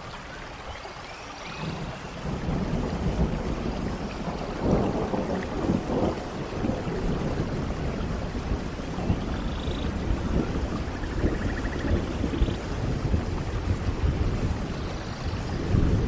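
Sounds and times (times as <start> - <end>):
heavy rain falling: 0.0 - 16.0
thunder rumbling and crackling: 1.6 - 16.0.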